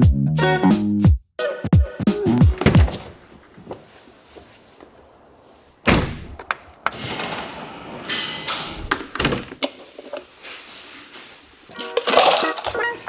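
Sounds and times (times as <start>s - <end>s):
knocks clicks and rustling handling: 2.2s - 13.0s.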